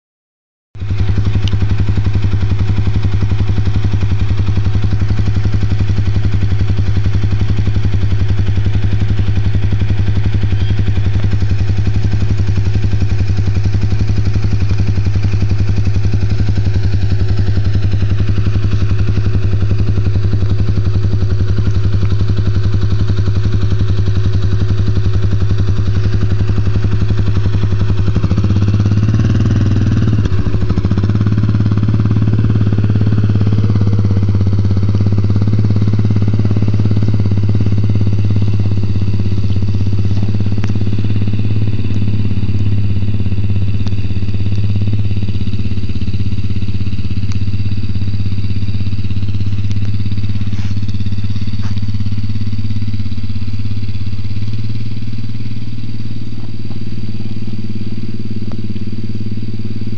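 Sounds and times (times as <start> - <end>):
atv engine idling: 0.8 - 59.9.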